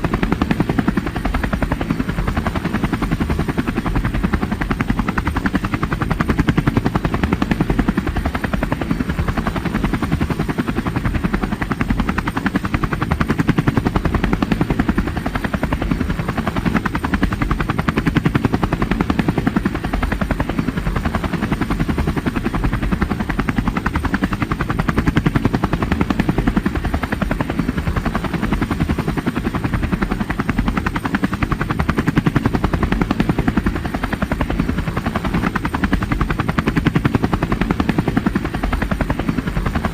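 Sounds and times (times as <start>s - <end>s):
helicopter engine noise: 0.0s - 39.9s
helicopter rotor chopping: 0.0s - 39.9s.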